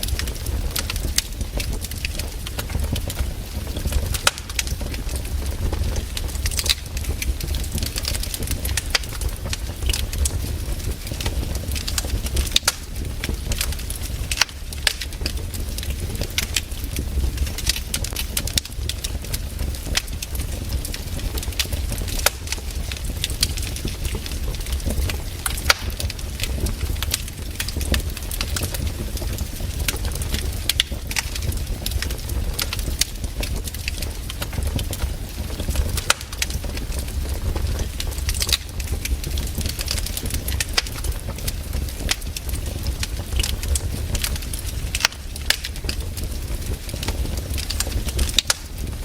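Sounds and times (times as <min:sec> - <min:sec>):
fire low rumble: 0:00.0 - 0:49.0
wood fire crackling and popping: 0:00.0 - 0:49.0.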